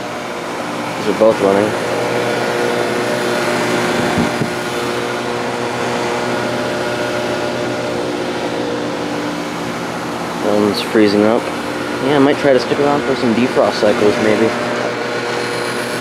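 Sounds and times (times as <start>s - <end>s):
fan rushing: 0.0s - 16.0s
heat pump hum: 0.0s - 16.0s.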